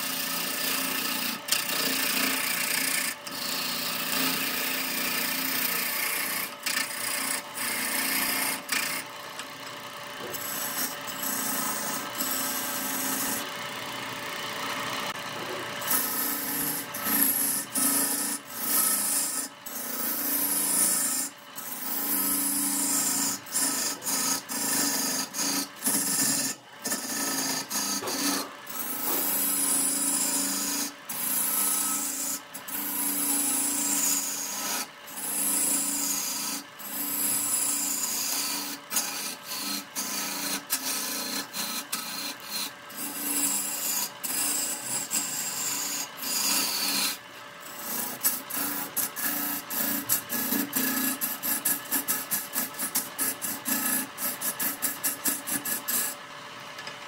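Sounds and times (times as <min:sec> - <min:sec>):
lathe humming: 0:00.0 - 0:57.0
tool scraping spinning wood: 0:00.0 - 0:57.0.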